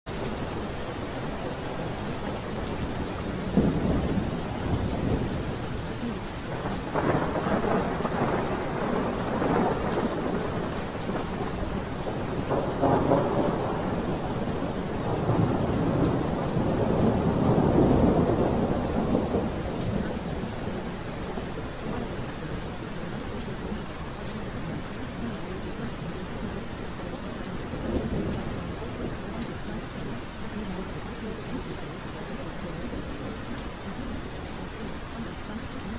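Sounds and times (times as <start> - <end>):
steady rain: 0.0 - 35.9
rolling thunder: 0.1 - 23.8, 24.6 - 30.0.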